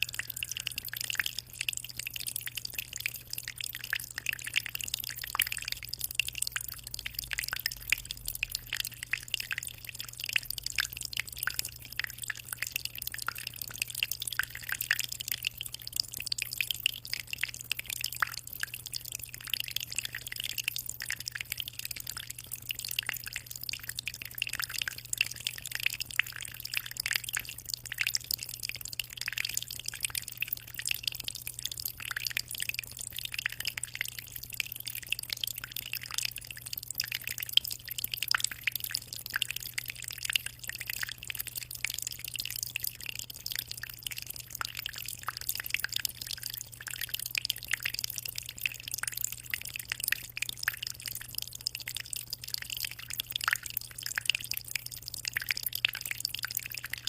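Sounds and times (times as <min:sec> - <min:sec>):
water trickling into aquarium: 0:00.0 - 0:57.0.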